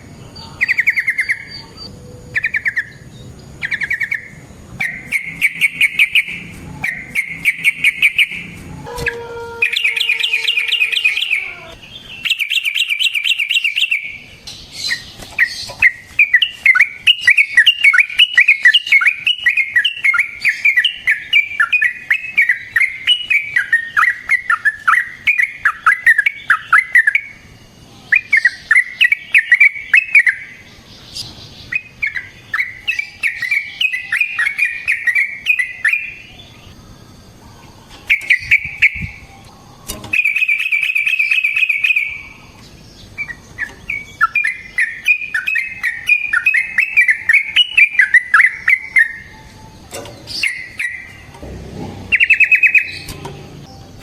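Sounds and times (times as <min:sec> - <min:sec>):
bulbul chattering song: 0:00.0 - 0:54.0
rapid bird trill: 0:00.0 - 0:54.0.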